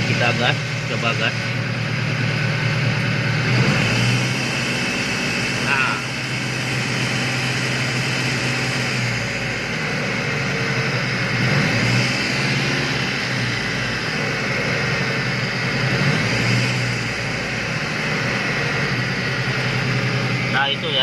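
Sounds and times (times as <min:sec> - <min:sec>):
car engine droning whine: 0:00.0 - 0:21.0.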